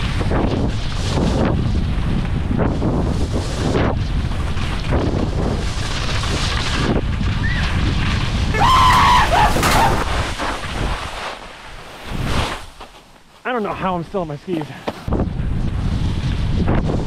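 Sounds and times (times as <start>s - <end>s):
wind buffeting microphone: 0.0s - 12.4s, 13.8s - 17.0s.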